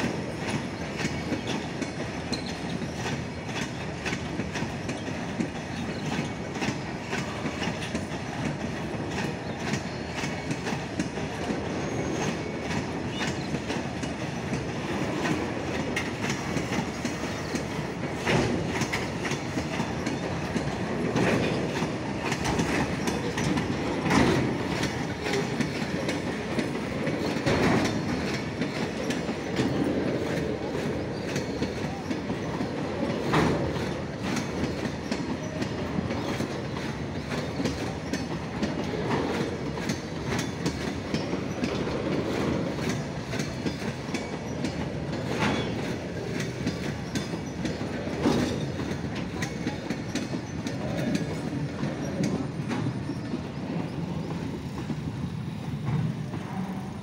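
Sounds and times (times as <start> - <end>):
train wagon clanking: 0.0 - 57.0
train wheels clicking over rail joints: 0.0 - 57.0.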